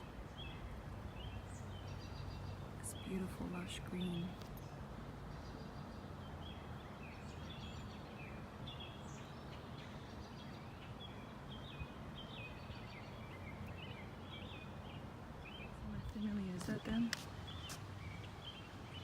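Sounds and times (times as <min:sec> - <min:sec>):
low outdoor background hum: 0:00.0 - 0:19.0
small birds chirping: 0:00.0 - 0:19.0.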